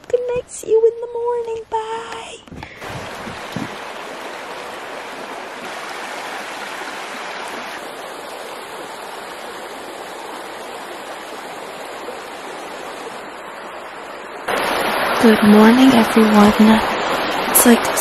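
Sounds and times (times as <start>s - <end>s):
water babbling over stones: 2.8s - 18.0s.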